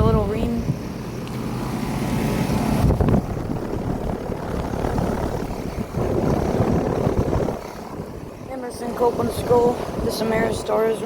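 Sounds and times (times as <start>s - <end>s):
air conditioner fan blowing: 0.0s - 11.0s.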